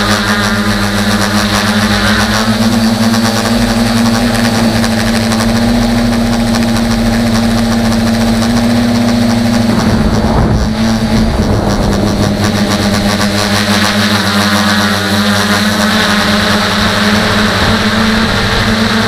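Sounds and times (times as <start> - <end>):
electric motors and propellers: 0.0 - 19.0.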